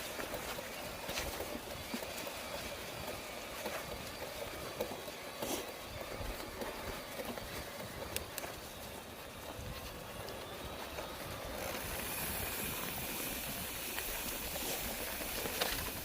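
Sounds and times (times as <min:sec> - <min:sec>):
footsteps crunching on trail: 0:00.0 - 0:16.0.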